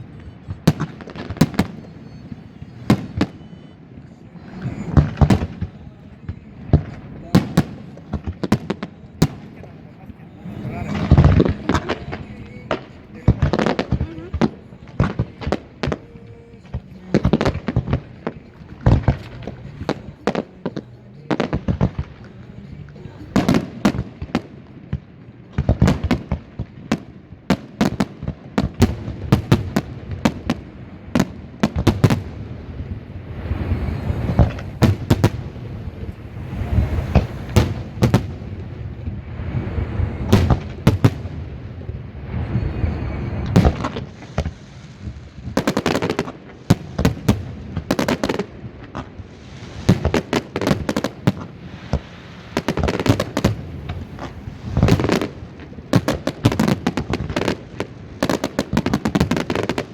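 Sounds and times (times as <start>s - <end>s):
fireworks bangs: 0.0s - 59.9s
fireworks hissing crackle: 0.0s - 59.9s.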